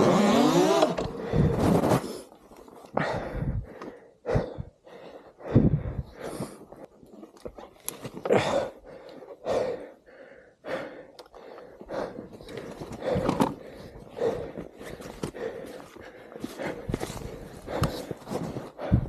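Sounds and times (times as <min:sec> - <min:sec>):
person breathing hard: 0:01.1 - 0:06.9, 0:08.2 - 0:19.0.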